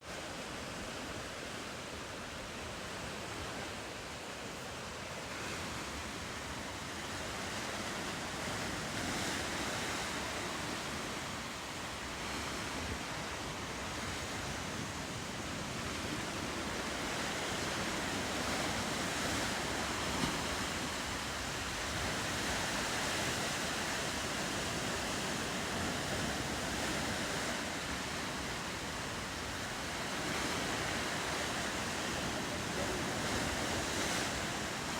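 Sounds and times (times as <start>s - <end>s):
ocean surf washing: 0.0s - 34.9s.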